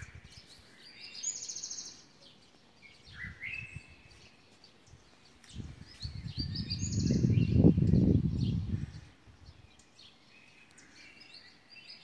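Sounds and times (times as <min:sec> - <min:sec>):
small birds twittering: 0:00.0 - 0:12.0.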